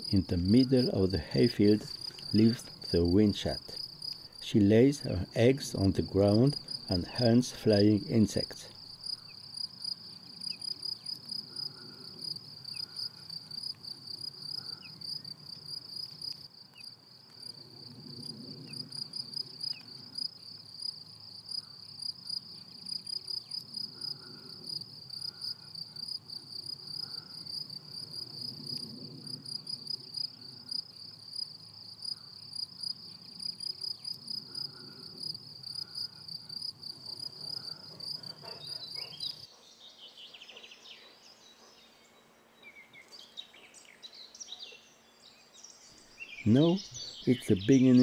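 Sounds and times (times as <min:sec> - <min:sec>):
insects chirring: 0:00.0 - 0:48.0.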